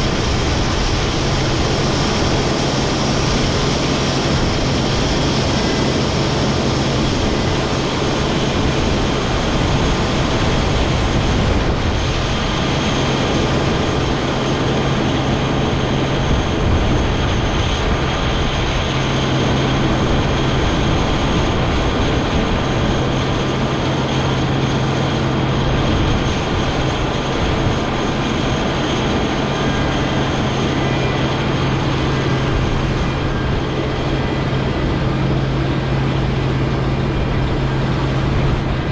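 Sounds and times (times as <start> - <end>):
combine engine drone: 0.0 - 38.9
faint high whine: 0.0 - 38.9.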